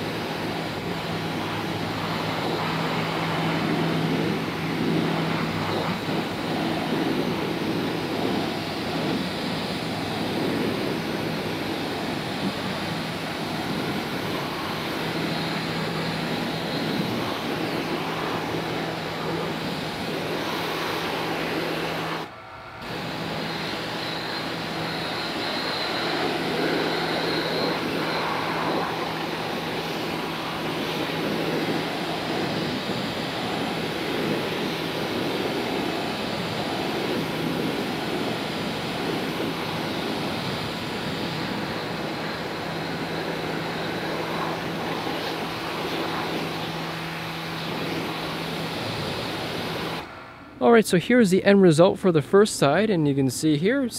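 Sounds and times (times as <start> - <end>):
pressure washer jet hissing: 0.0 - 50.2
steady hum: 0.0 - 53.9.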